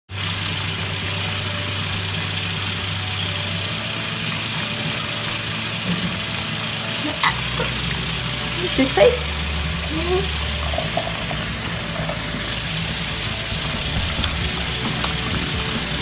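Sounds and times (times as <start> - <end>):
mechanical hum with hiss: 0.1 - 16.0.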